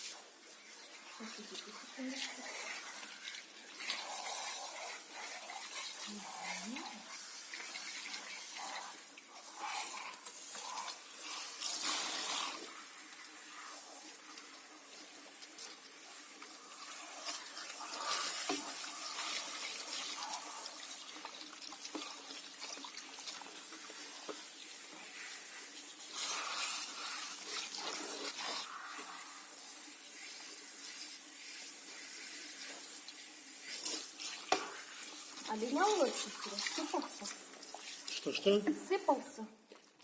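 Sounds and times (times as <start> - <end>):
running water rinsing: 0.0 - 40.0.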